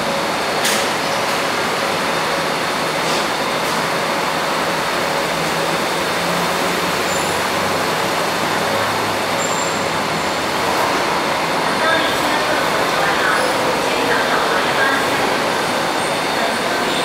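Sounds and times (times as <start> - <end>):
low hum of approaching train: 0.0 - 17.0
rushing noise on metro platform: 0.0 - 17.0.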